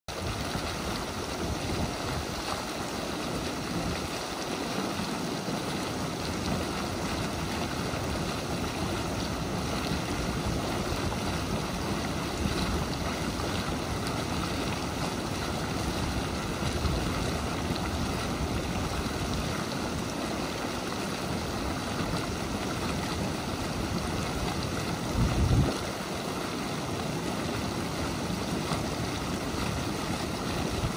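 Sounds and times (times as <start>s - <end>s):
mud pot bubbling: 0.1s - 30.9s.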